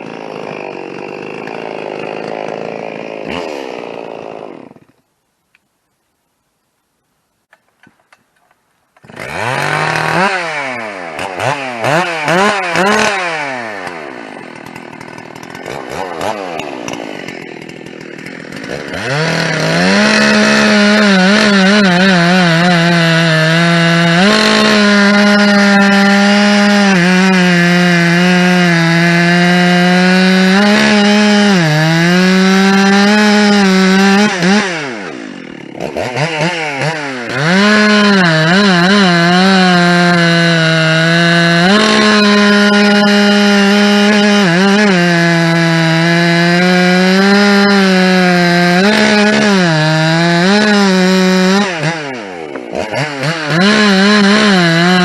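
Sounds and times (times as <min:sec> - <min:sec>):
chainsaw revving and cutting wood: 0:00.0 - 0:05.1, 0:09.0 - 0:55.0.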